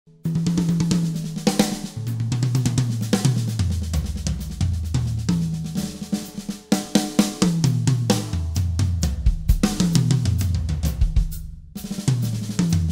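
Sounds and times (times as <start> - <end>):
tom drum rolls: 0.3 - 11.4.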